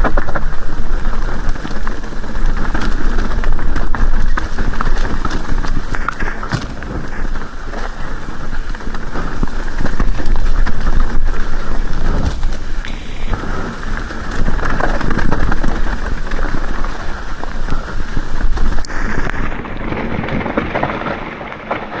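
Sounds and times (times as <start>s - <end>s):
heavy rain falling: 0.0s - 22.0s
raindrops spattering: 0.0s - 22.0s.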